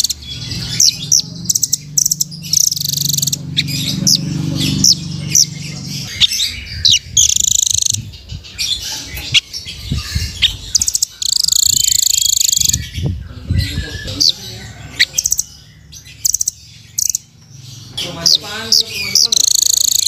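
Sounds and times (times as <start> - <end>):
bird chips and buzzy trills: 0.0 - 20.0.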